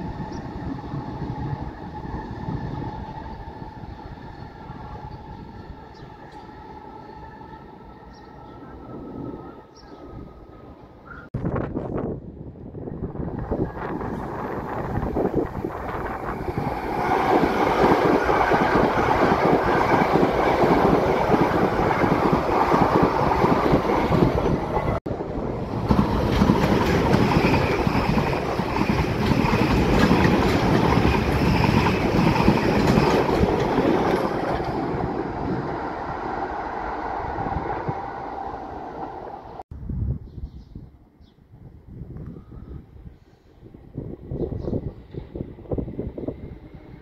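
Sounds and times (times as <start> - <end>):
electric train passing: 0.0 - 11.2, 12.2 - 39.6.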